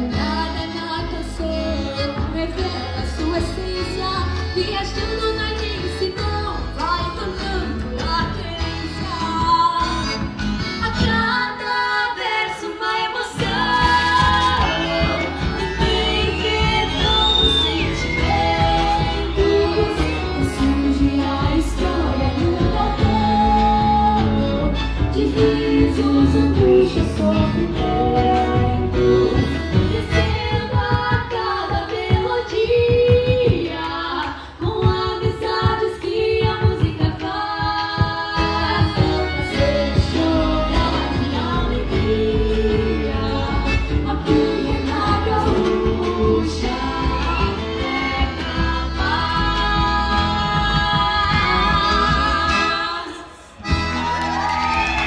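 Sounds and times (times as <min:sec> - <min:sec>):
two women singing: 0:00.0 - 0:53.8
accordion: 0:00.0 - 0:55.0
acoustic guitars: 0:00.0 - 0:55.0
bass guitar: 0:00.0 - 0:55.0.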